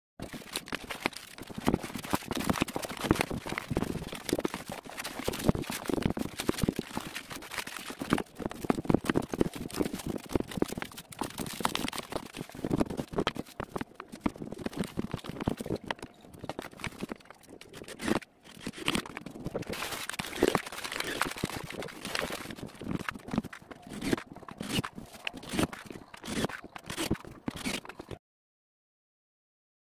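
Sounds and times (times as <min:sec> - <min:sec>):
crumpled paper rustling: 0:00.2 - 0:28.2
plastic stretch film crinkling: 0:00.2 - 0:28.2.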